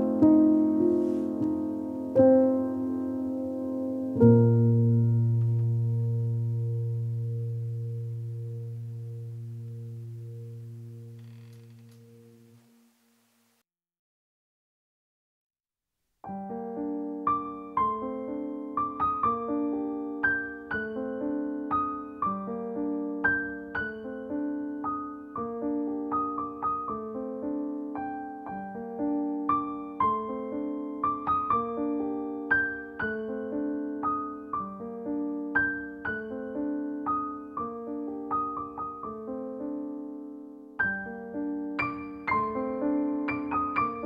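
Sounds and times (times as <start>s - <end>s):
solo piano notes: 0.0s - 13.2s, 16.2s - 44.0s.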